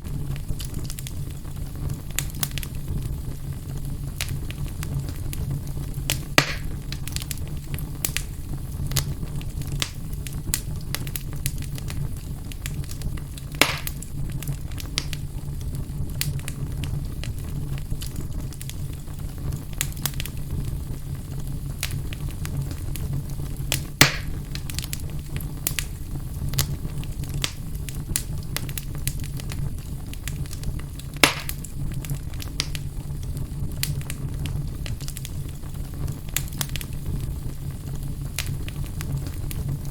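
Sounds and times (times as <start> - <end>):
fire crackling: 0.0 - 39.9
fire popping: 0.0 - 39.9
low fire rumble: 0.0 - 39.9.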